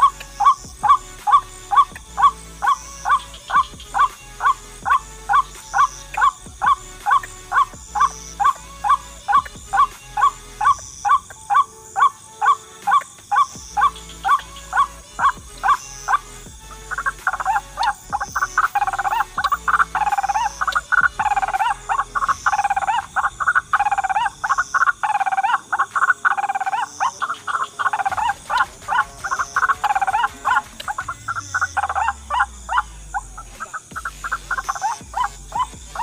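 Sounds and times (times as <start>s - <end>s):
waterhen calling: 0.0s - 16.2s, 16.8s - 36.0s.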